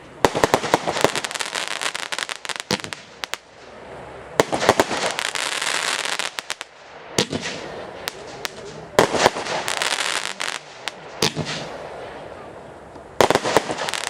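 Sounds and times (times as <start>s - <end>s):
firework cracking and crackling: 0.0s - 12.2s, 13.2s - 14.0s
firework bangs: 0.2s - 12.2s, 13.2s - 14.0s.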